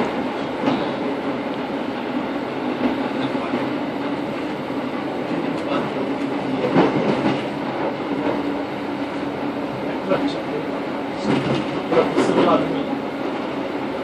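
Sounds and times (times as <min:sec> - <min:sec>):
train clatter: 0:00.0 - 0:13.5
train wheels rumbling on track: 0:00.0 - 0:14.0.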